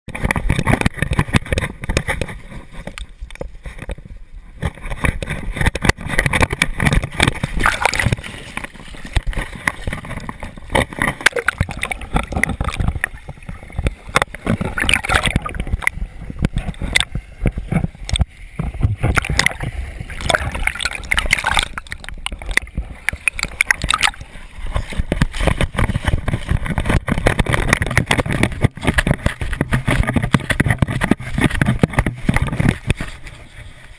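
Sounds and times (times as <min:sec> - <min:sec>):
camera mount knocking and rubbing: 0:00.1 - 0:04.0, 0:04.6 - 0:33.1
water splashing and sloshing: 0:00.1 - 0:33.9.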